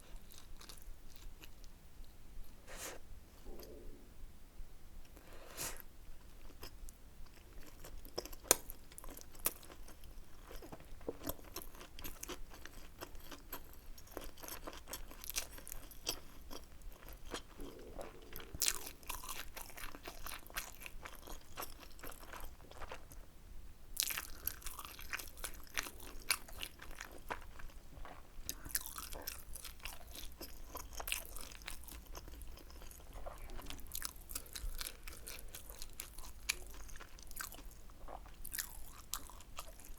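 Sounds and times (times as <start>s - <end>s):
person chewing food: 0.0s - 1.7s, 3.4s - 3.9s, 5.2s - 23.2s, 24.0s - 39.9s.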